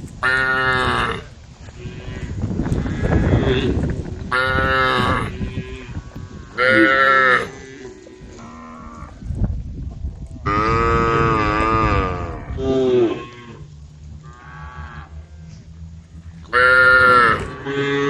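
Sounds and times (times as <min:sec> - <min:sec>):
low rumbling noise: 0:00.0 - 0:18.0
cows mooing: 0:00.2 - 0:09.2, 0:10.5 - 0:18.0.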